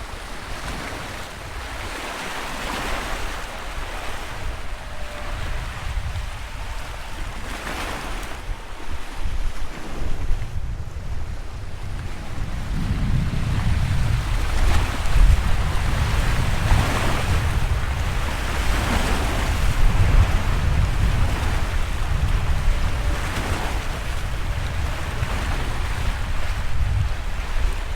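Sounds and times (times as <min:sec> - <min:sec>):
sea waves breaking: 0:00.0 - 0:27.9
wind on microphone: 0:00.0 - 0:27.9.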